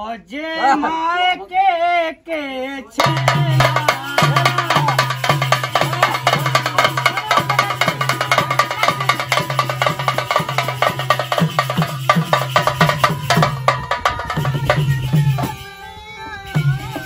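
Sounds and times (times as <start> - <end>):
hand drum strokes: 3.0 - 17.0.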